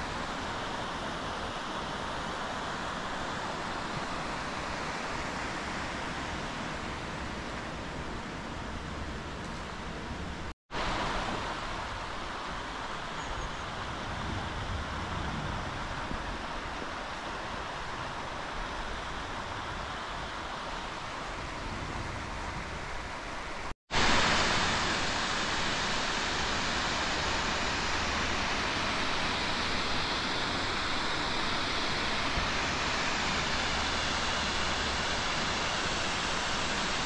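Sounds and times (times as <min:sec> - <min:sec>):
distant river: 0:00.0 - 0:37.0
water rushing below spillway: 0:00.0 - 0:37.0
wind: 0:00.0 - 0:37.0.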